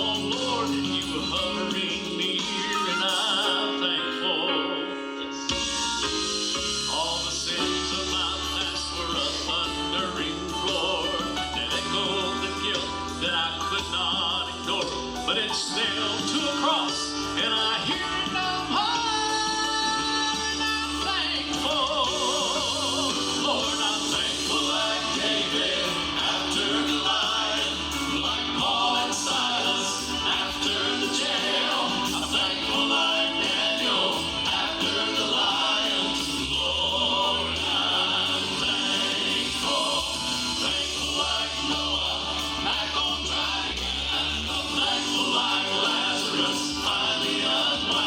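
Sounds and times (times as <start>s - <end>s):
person singing with vibrato: 0.0s - 5.6s, 6.7s - 48.0s
instrumental backing: 0.0s - 48.0s.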